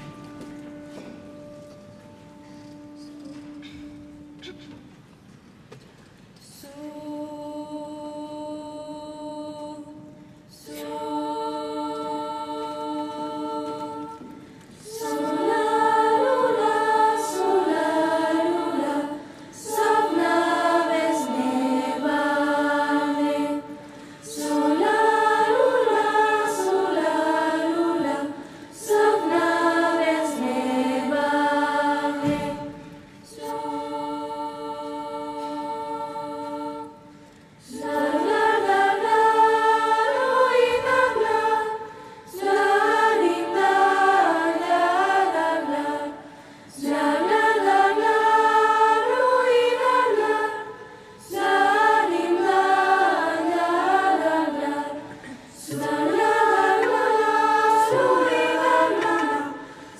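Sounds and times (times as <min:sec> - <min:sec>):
youth choir singing: 0:06.5 - 0:59.9.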